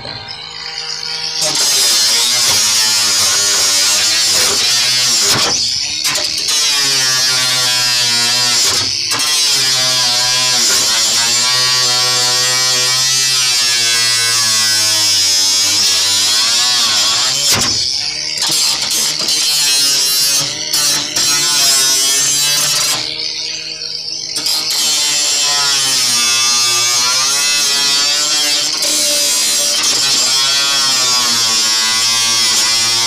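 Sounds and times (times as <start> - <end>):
angle grinder cutting steel: 0.0 - 33.0.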